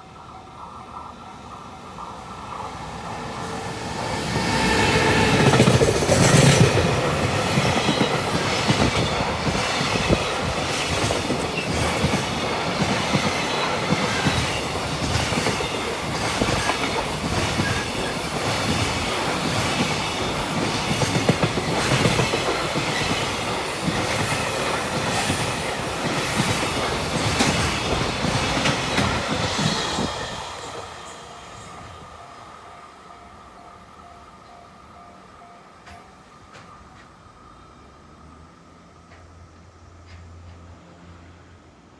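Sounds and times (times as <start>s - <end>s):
freight train passing: 0.0s - 41.9s.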